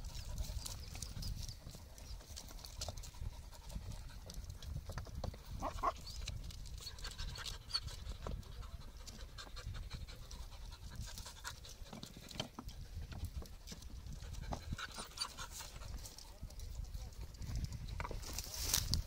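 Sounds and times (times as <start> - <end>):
dogs panting and sniffing: 0.0 - 19.0
stones and paws scraping: 0.0 - 19.0.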